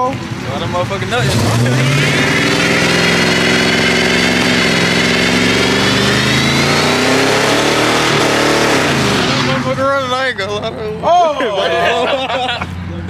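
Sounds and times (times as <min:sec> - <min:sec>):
car engine revving: 0:00.0 - 0:13.0
tyres squealing: 0:00.0 - 0:13.0.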